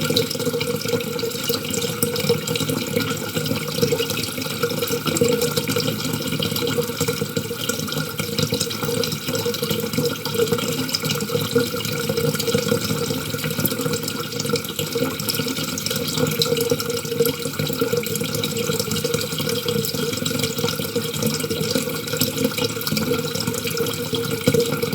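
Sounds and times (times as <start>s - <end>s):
water running from tap into sink: 0.0s - 24.9s.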